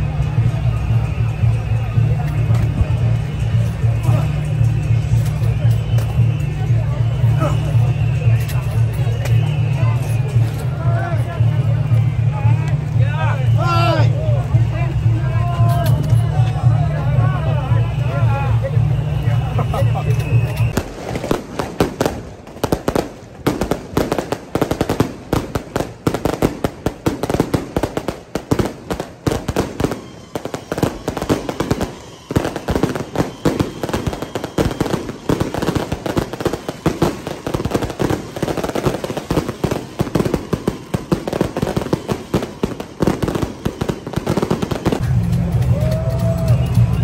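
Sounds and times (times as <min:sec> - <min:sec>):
firecrackers cracking: 0:00.0 - 0:17.0, 0:17.7 - 0:47.0.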